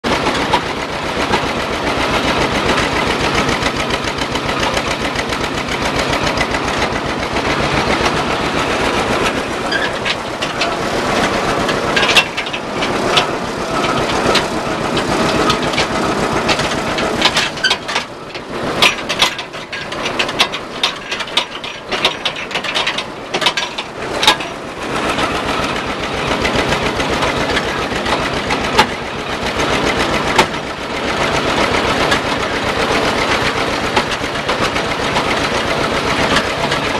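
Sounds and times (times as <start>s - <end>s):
sharp clanks and rattles: 0.0s - 36.9s
two-cylinder tractor engine running: 0.0s - 36.9s.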